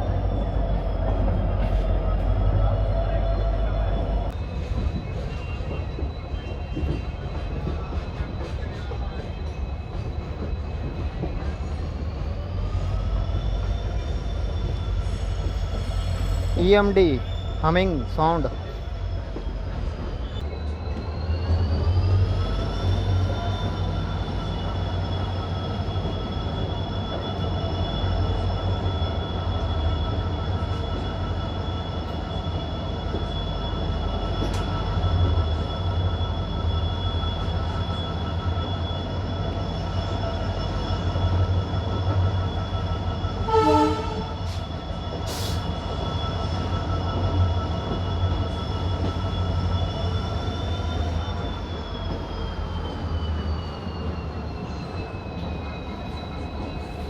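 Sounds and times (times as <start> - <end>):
diesel locomotive humming: 0.0 - 57.0.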